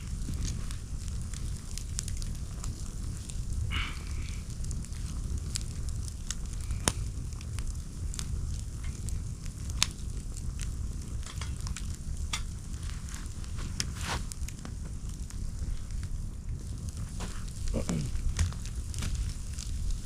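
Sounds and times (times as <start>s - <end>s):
campfire low rumble: 0.0s - 20.0s
fire crackles and pops: 0.0s - 20.0s.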